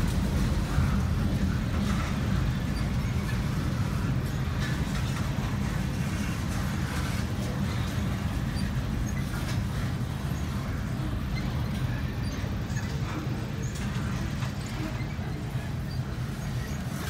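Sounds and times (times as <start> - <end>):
freight train rumbling by: 0.0 - 17.0.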